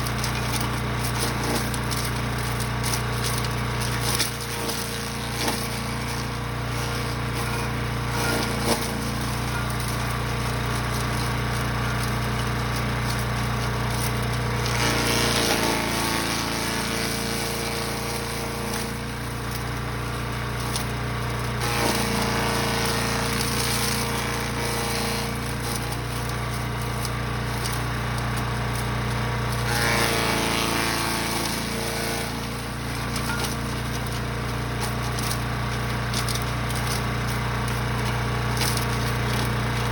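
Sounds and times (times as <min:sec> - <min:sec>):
material being shredded: 0:00.0 - 0:39.9
wood chipper engine running: 0:00.0 - 0:39.9.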